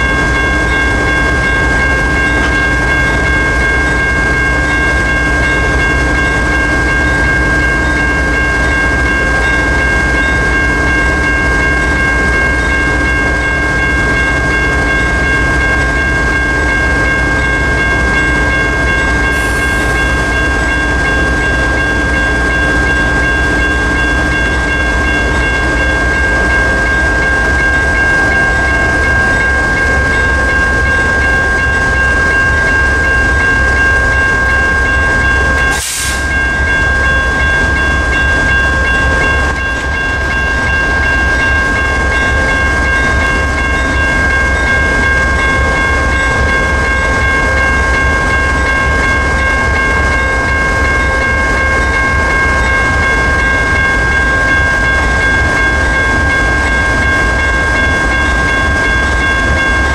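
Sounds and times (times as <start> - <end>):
crossing bell ringing: 0.0 - 59.9
diesel locomotive idling: 0.0 - 59.9.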